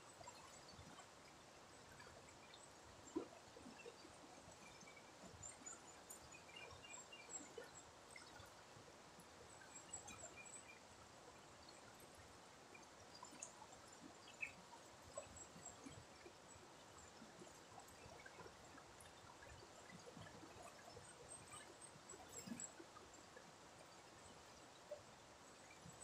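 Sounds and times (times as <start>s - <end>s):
flowing river water: 0.0s - 26.0s
small ticks: 0.0s - 26.0s.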